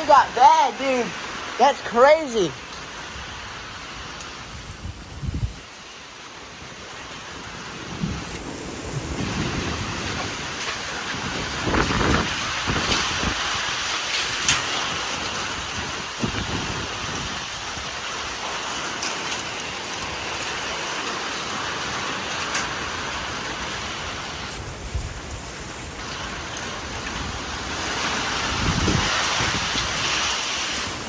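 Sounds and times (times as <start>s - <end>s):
heavy rain: 0.0s - 31.0s
strong wind: 0.0s - 31.0s.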